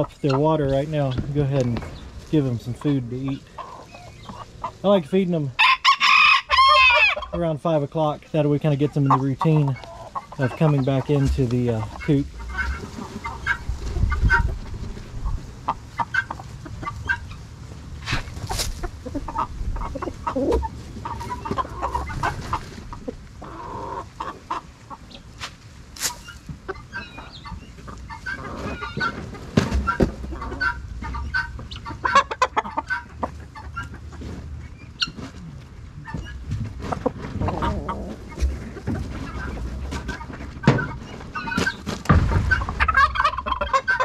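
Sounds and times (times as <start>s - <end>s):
chickens pecking taps: 0.0s - 4.8s, 8.8s - 17.4s, 18.1s - 44.0s
chickens clucking: 0.0s - 44.0s.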